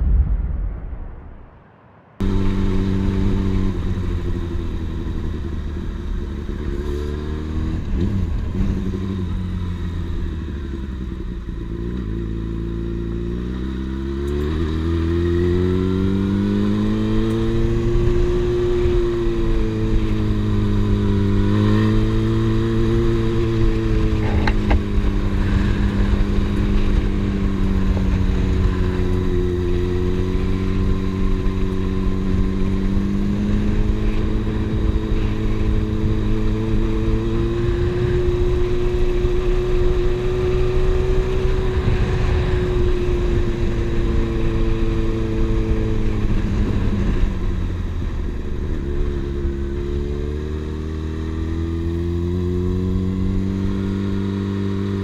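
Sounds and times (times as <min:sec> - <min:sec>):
motorcycle engine running: 0:02.2 - 0:55.0.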